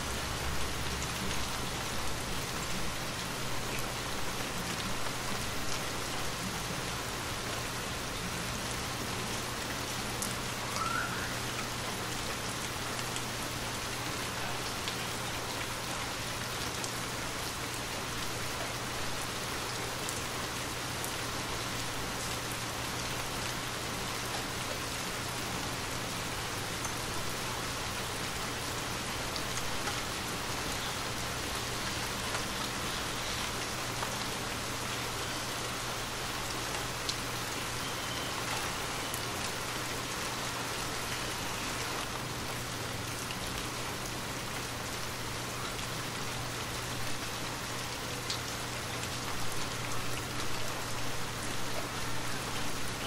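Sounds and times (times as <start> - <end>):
rain on a hard surface: 0.0 - 53.0.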